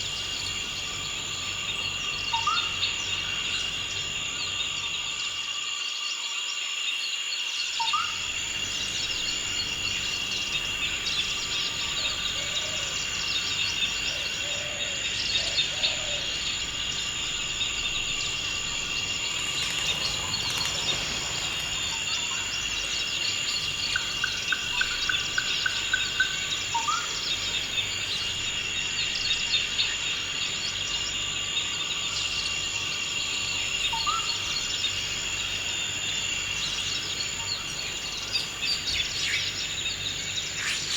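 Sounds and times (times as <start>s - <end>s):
high insect drone: 0.0s - 40.9s
birds chirping: 7.9s - 40.9s.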